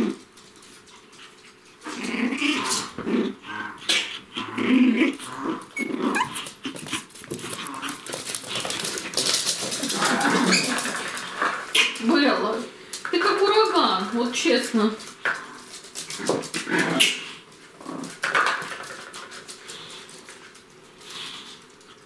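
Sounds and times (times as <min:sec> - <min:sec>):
puppies growling: 0:00.0 - 0:13.5, 0:14.1 - 0:22.0.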